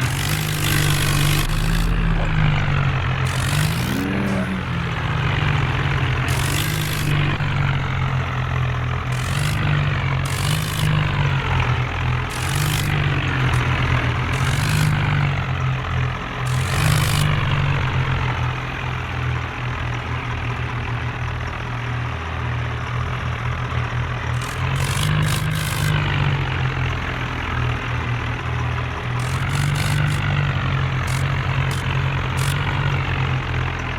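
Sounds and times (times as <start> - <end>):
tractor engine humming: 0.0 - 33.9.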